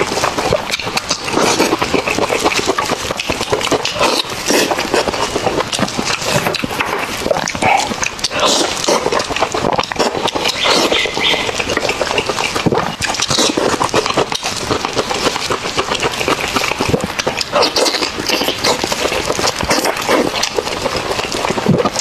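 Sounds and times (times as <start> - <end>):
wet chewing and lip smacks: 0.0 - 22.0.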